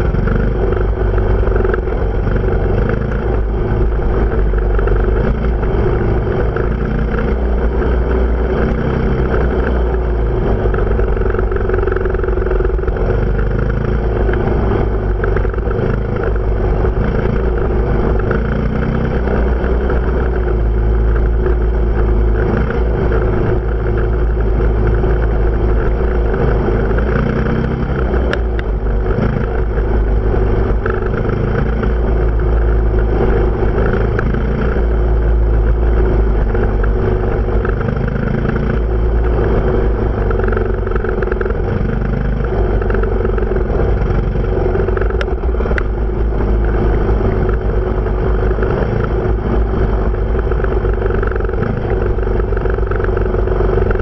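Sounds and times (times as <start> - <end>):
dirt bike engine running: 0.0 - 54.0
wind rumble on microphone: 0.0 - 54.0.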